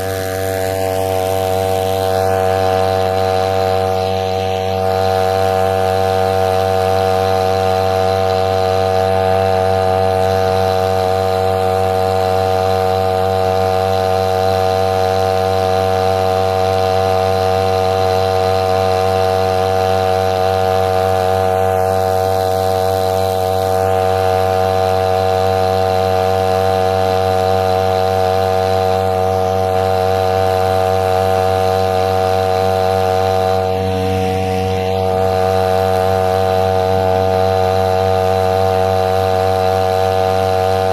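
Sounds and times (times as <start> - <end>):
small engine droning: 0.0 - 40.9.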